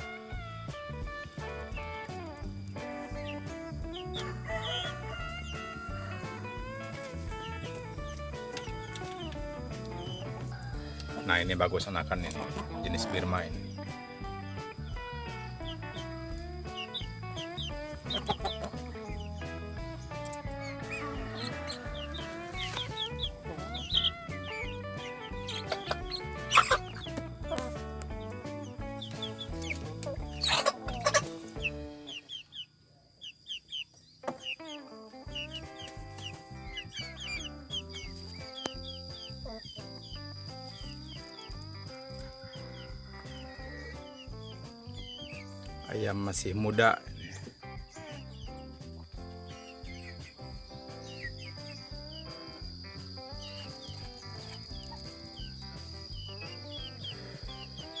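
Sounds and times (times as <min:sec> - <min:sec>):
background music with held notes: 0:00.0 - 0:32.5, 0:34.2 - 0:58.0
young chickens peeping: 0:00.0 - 0:58.0.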